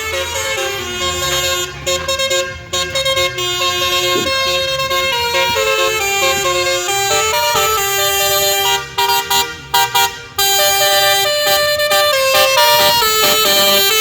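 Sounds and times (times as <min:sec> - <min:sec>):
melodic air horns playing a tune: 0:00.0 - 0:14.0.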